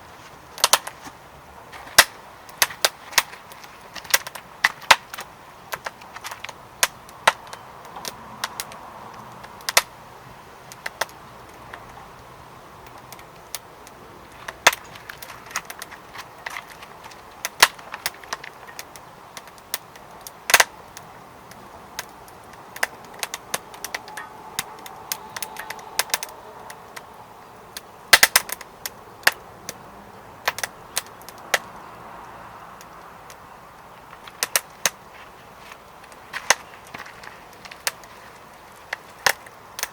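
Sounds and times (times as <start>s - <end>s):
faint steady hiss: 0.0s - 39.9s
firewood crackling and popping: 0.0s - 39.9s.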